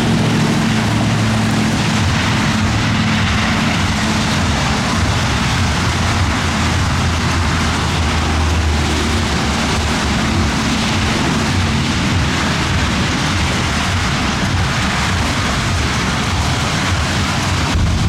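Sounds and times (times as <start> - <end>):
heavy rain hissing: 0.0 - 18.0
low rumble: 0.0 - 18.0.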